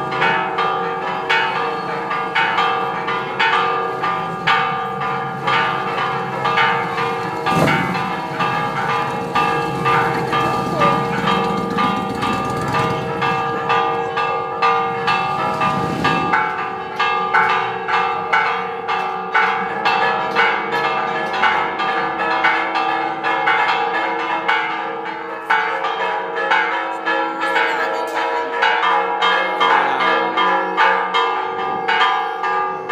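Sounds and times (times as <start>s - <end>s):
church bells ringing: 0.0s - 32.9s.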